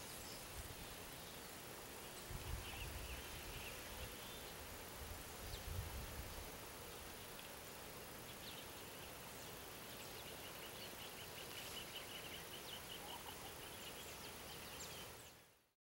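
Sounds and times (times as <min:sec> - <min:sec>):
outdoor background hiss: 0:00.0 - 0:15.8.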